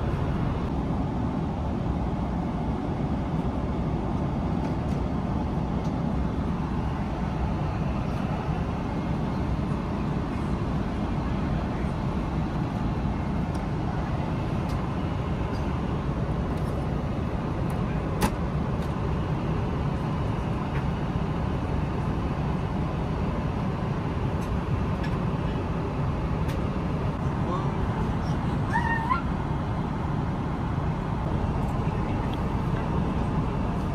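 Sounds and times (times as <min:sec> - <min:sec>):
airliner cabin noise: 0:00.0 - 0:33.9.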